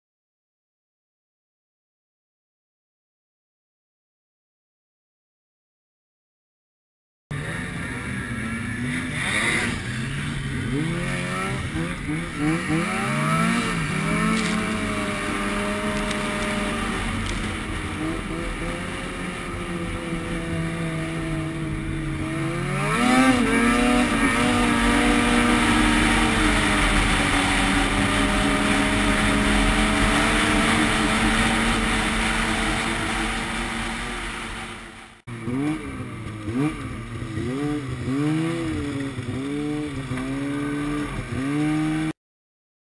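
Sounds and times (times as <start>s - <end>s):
snowmobile engine revving: 7.3s - 42.2s.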